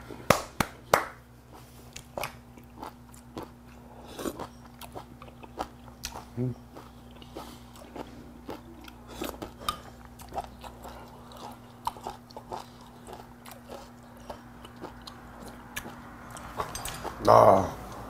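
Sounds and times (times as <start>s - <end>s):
faint steady hum: 0.0s - 18.0s
chewing smacks and clicks: 1.9s - 17.2s.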